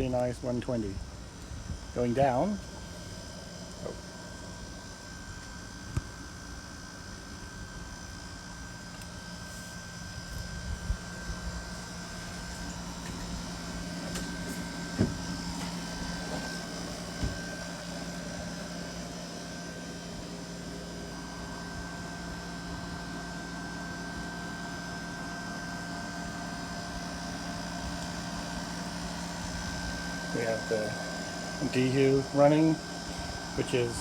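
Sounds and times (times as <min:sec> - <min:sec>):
dehumidifier hum: 0:00.0 - 0:34.0.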